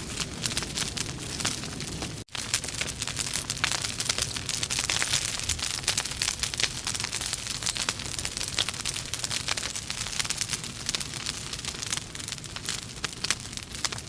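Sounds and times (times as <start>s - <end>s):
logs crackling in a fireplace: 0.0s - 14.0s.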